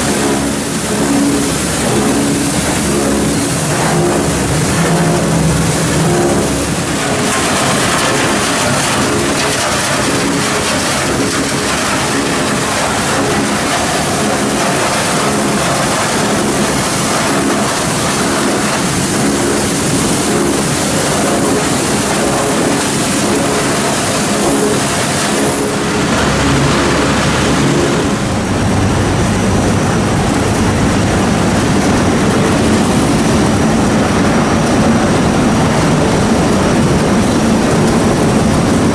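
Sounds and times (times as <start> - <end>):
thin high whine: 0.0 - 38.8
deep rumble: 0.0 - 38.9
recycling machinery drone: 0.0 - 38.9.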